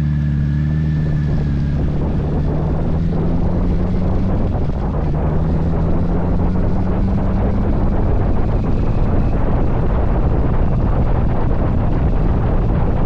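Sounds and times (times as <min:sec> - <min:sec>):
motorcycle engine drone: 0:00.0 - 0:13.0
wind buffeting microphone: 0:00.6 - 0:13.0.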